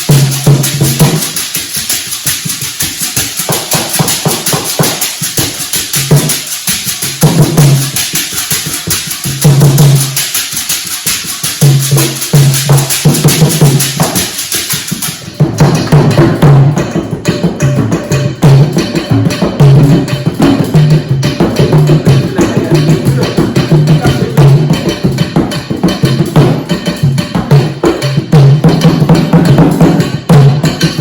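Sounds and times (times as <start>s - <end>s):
hand drums playing: 0.0s - 31.0s.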